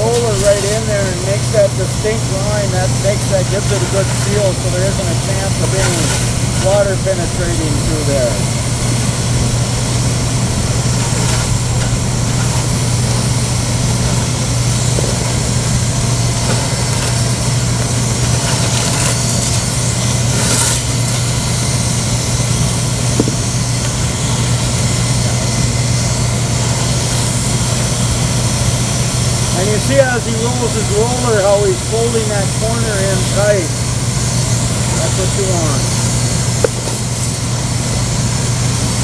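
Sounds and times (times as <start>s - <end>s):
hot-air welder blower drone: 0.0s - 39.0s.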